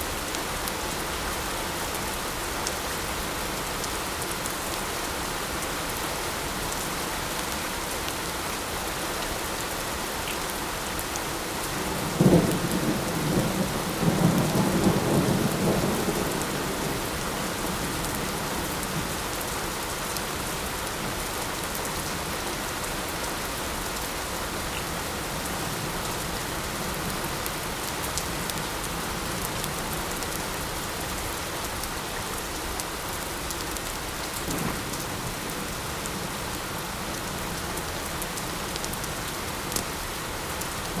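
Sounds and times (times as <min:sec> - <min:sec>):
light rain falling: 0:00.0 - 0:41.0.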